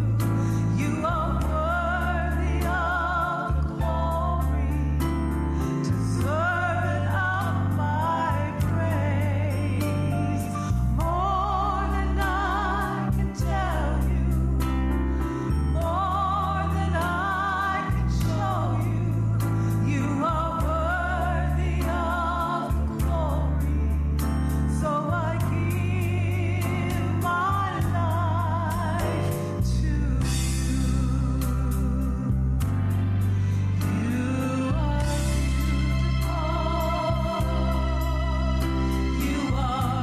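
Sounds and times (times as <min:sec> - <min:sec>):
bass: 0:00.0 - 0:40.0
keyboard chords: 0:00.0 - 0:40.0
solo singer with vibrato: 0:00.0 - 0:40.0.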